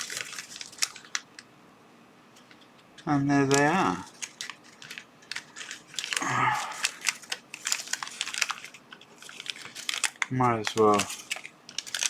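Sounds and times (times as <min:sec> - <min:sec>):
packaging crinkling: 0:00.0 - 0:01.4, 0:02.5 - 0:12.0.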